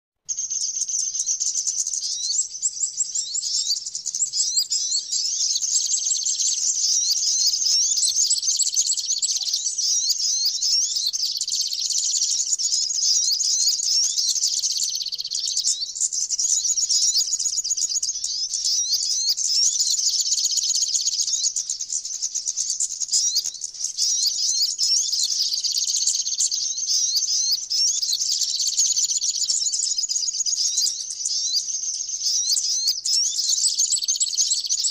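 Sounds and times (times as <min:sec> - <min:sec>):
birds chattering and trilling: 0:00.2 - 0:34.9.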